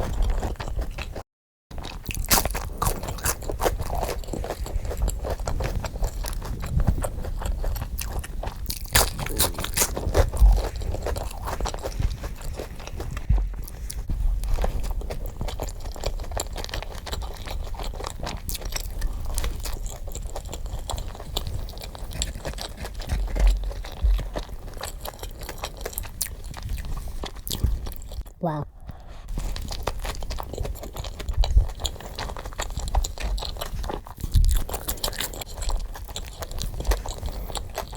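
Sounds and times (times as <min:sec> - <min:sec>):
crunching and chewing food: 0:00.0 - 0:37.9.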